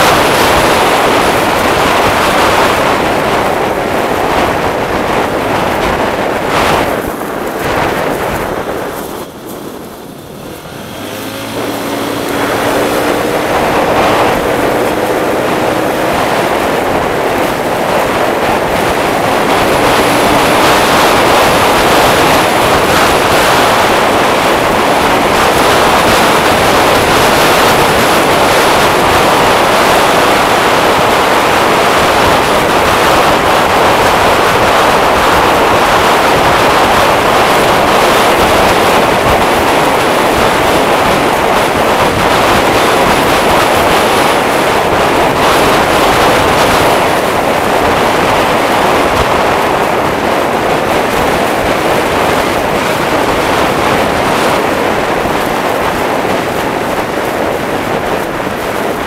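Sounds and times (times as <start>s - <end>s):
scooter engine running: 0.0s - 59.0s
wind rushing over microphone: 0.0s - 59.0s.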